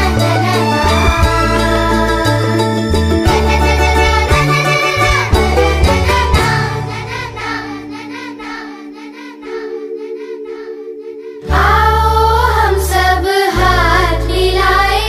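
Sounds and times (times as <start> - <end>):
music with sung vocals: 0.0 - 15.0.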